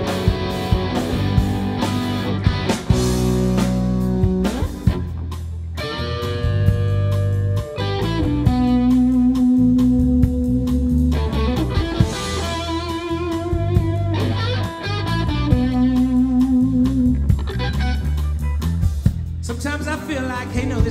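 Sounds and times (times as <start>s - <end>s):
electric guitar solo: 0.0s - 18.8s
rock band drums and bass: 0.0s - 20.9s.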